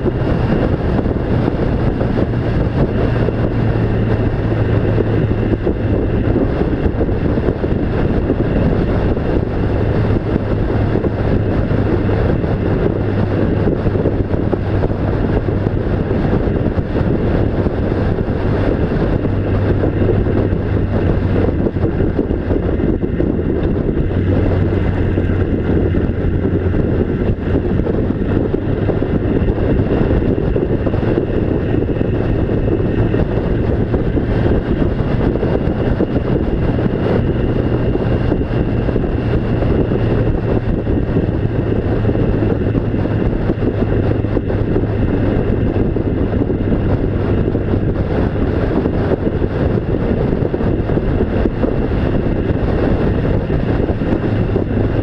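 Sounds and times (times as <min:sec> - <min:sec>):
road and wind noise: 0:00.0 - 0:55.0
vehicle engine droning: 0:00.0 - 0:55.0.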